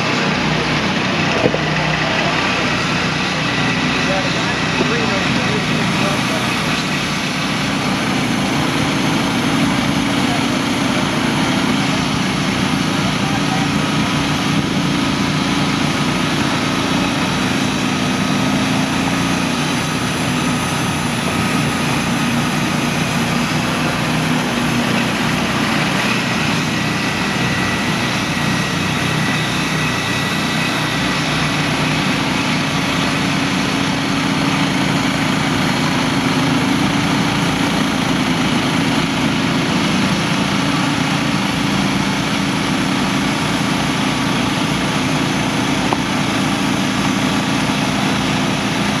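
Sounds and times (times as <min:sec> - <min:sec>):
bandsaw mill engine running: 0:00.0 - 0:49.0.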